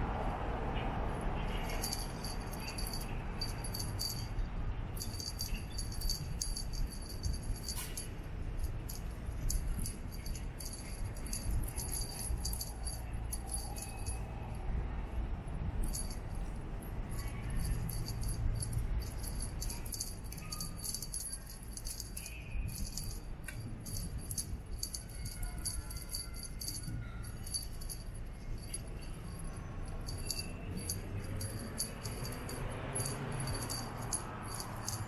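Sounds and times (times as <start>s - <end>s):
small bell jingling: 1.1s - 35.0s.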